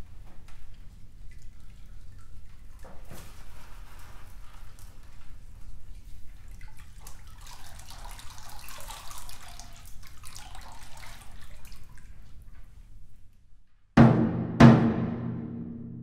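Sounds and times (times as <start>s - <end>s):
water drips and splashes: 0.0s - 13.1s.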